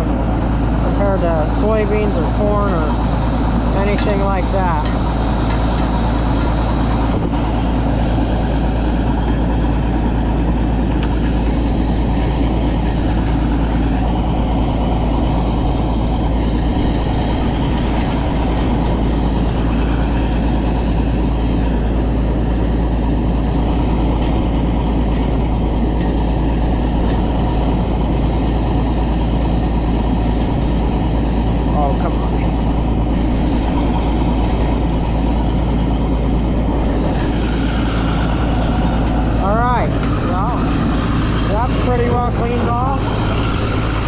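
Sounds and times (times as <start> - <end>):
combine harvester low drone: 0.0 - 44.0.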